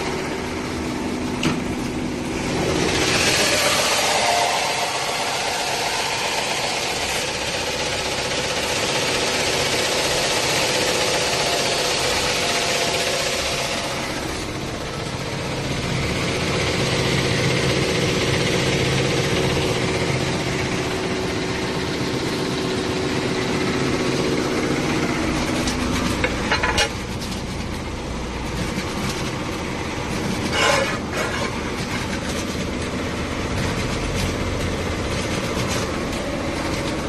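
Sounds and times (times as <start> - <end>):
sanding machine grinding: 1.8 - 37.0.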